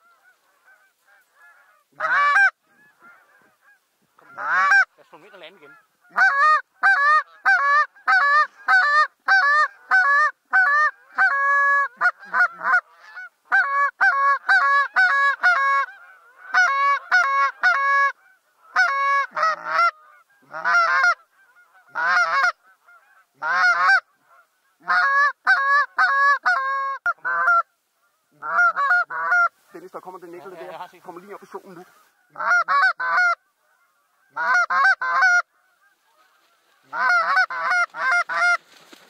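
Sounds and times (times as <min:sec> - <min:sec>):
goose call honks: 0:00.0 - 0:38.7.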